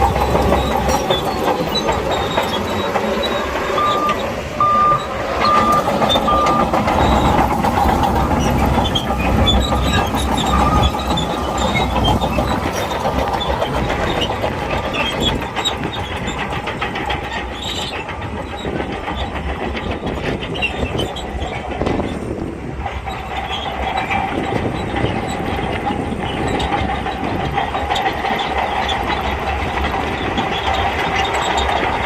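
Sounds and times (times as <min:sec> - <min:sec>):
diesel engine under load: 0:00.0 - 0:32.0
steel tracks rattling and clanking: 0:00.0 - 0:32.0.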